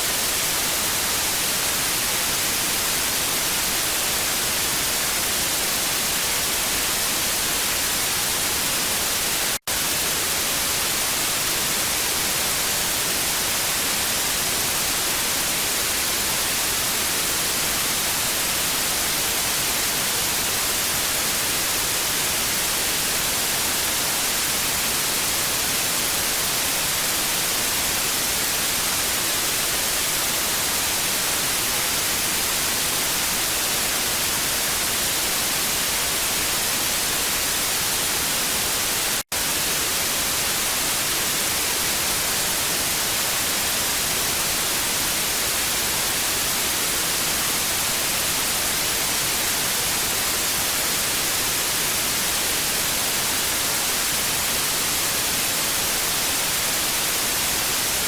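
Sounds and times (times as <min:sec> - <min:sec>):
television static hiss: 0:00.0 - 0:58.0.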